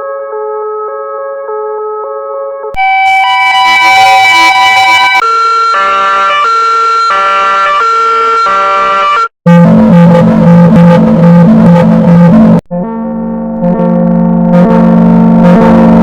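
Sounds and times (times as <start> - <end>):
altered ambulance siren: 0.0 - 16.0.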